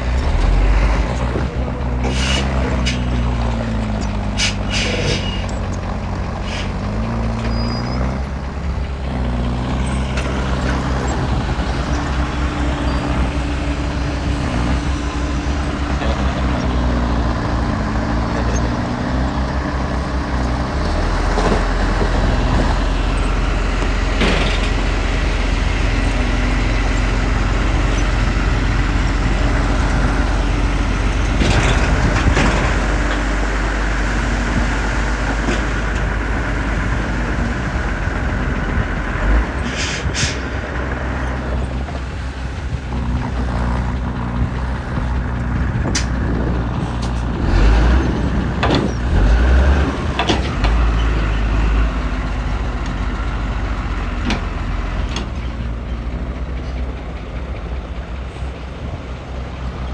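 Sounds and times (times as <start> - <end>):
diesel earthmoving machinery: 0.0 - 59.9.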